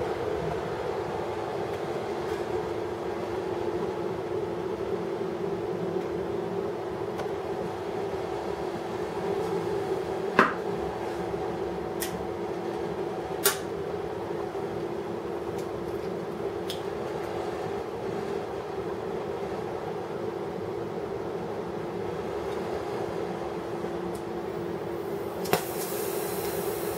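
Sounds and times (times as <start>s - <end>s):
welding station running: 0.0s - 21.3s, 21.9s - 26.9s.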